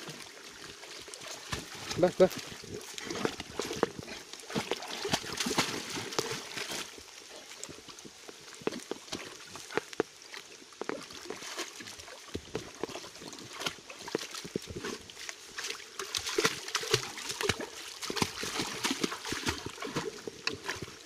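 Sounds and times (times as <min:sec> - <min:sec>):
dog splashing while swimming: 0:00.0 - 0:07.5, 0:10.9 - 0:21.0
running water rushing: 0:00.0 - 0:21.0.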